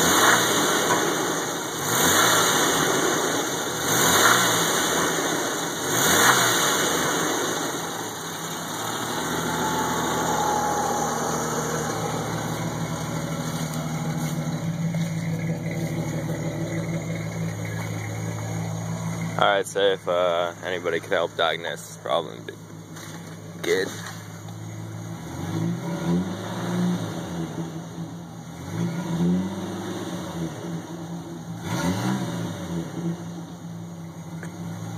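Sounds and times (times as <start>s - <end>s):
car engine revving and idling: 0.0s - 34.9s.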